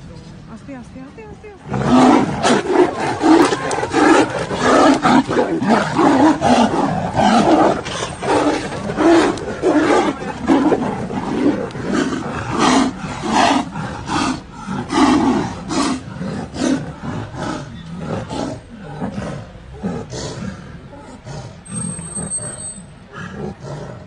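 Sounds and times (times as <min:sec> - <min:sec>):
tigers roaring: 0:01.6 - 0:24.0.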